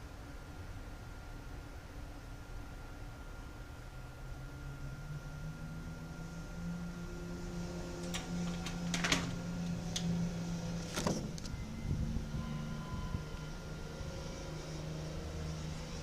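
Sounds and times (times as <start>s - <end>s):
low droning hum in sky: 0.0s - 16.0s.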